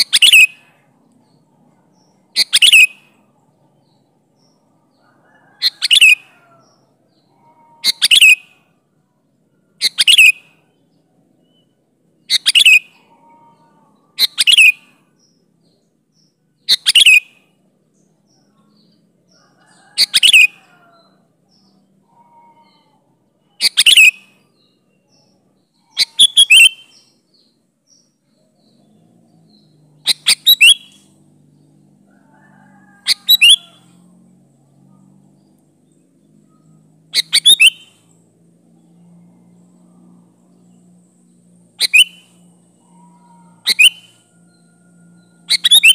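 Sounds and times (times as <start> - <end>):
bird chirping: 0.0 - 45.9.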